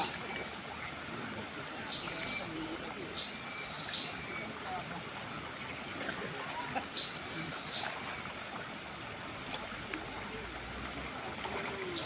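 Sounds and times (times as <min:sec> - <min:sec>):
faint distant voices: 0:00.0 - 0:12.0
steady outdoor background noise: 0:00.0 - 0:12.0.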